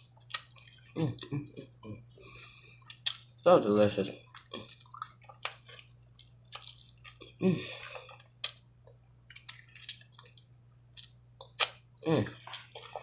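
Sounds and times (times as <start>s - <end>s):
person chewing food: 0.0s - 3.4s, 4.0s - 13.0s.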